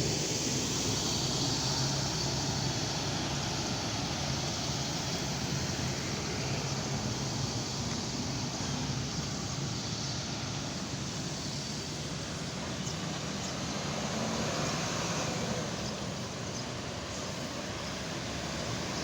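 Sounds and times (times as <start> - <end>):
bus diesel engine running: 0.0 - 19.0
traffic noise: 0.0 - 19.0.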